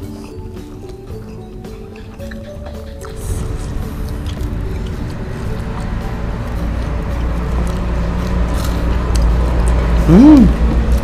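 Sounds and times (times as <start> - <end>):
low steady rumble: 1.4 - 11.0.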